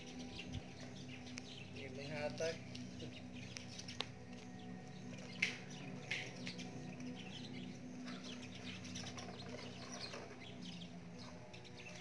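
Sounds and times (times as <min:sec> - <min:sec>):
faint high chirping calls: 0:00.0 - 0:12.0.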